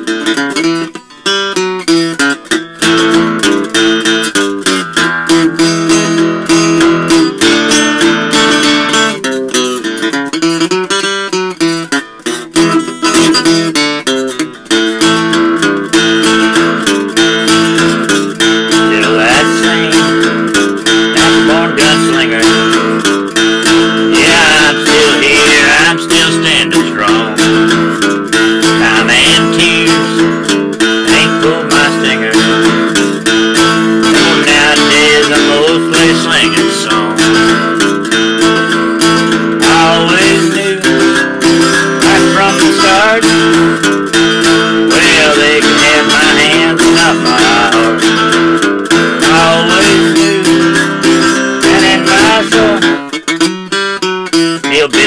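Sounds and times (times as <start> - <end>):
acoustic guitar ballad: 0.0 - 55.0.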